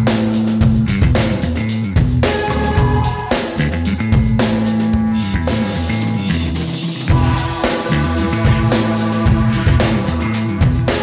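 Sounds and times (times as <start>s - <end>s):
bass line: 0.0s - 11.0s
drum kit: 0.0s - 11.0s.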